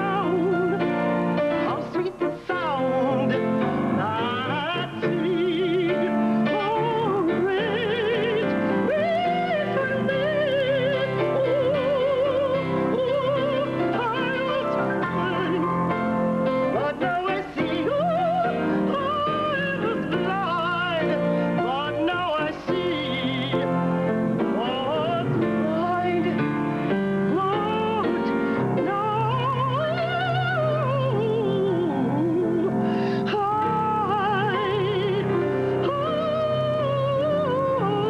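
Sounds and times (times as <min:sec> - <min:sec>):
woman singing with vibrato: 0:00.0 - 0:38.0.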